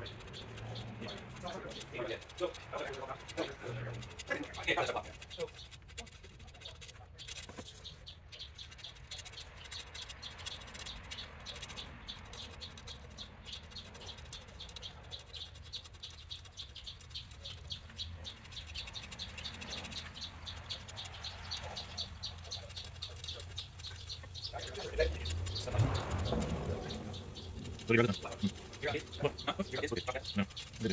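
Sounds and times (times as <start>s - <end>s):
metal tool scratching coating: 0.0s - 30.9s.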